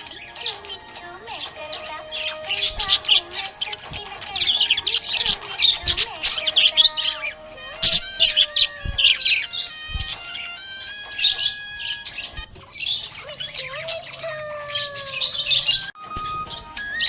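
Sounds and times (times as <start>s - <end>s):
budgerigar chirping and warbling: 0.0s - 17.0s.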